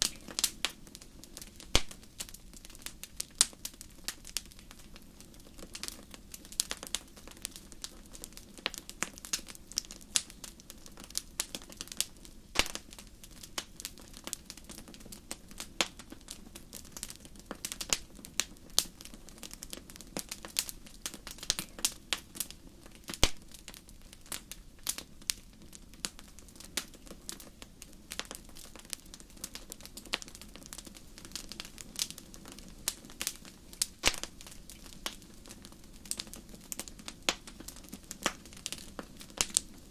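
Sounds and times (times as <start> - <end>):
low rumble of burning fire: 0.0 - 39.9
wood fire pops and snaps: 0.0 - 39.9.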